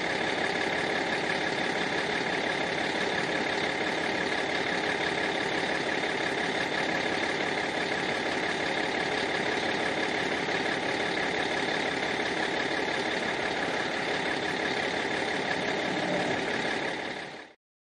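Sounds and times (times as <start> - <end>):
bus engine running: 0.0 - 17.6.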